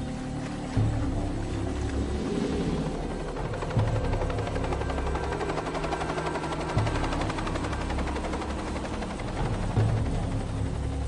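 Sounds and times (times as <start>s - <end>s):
background music: 0.0s - 11.0s
helicopter rotor beating: 0.0s - 11.0s.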